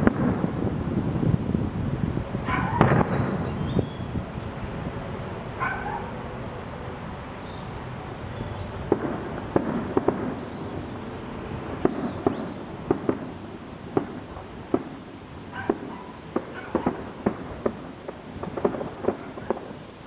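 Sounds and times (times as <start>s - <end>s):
fireworks cracking and banging: 0.0s - 1.6s, 2.3s - 5.6s, 8.2s - 20.0s
steady background noise: 0.0s - 20.0s.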